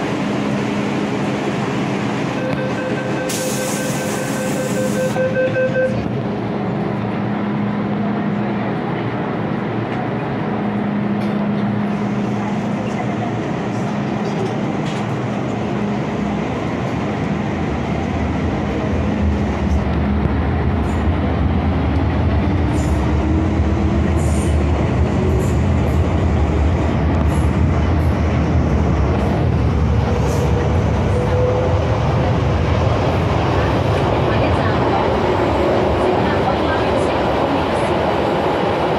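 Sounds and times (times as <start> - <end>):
train wheels rumbling on rail: 0.0 - 5.2, 5.8 - 38.9.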